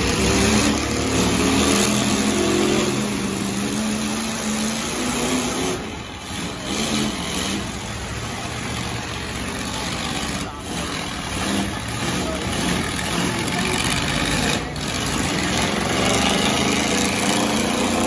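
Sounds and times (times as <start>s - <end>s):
truck engines revving: 0.0s - 18.0s.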